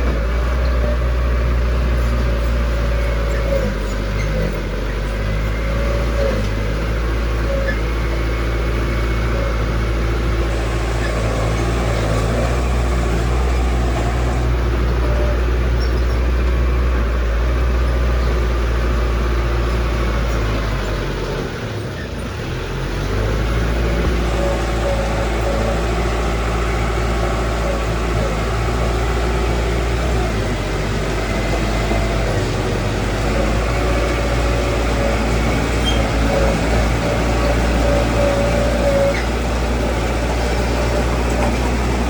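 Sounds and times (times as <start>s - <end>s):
heavy machinery diesel engine running: 0.0s - 42.0s.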